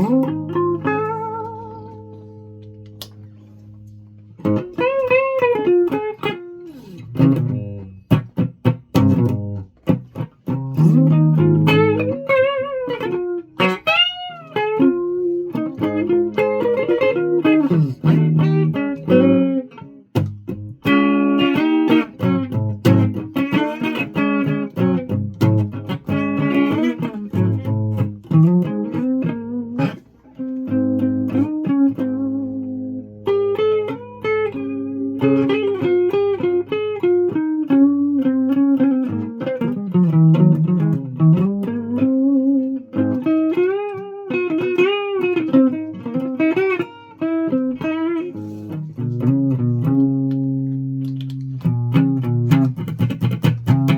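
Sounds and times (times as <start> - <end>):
guitar with bent notes: 0.0 - 53.9.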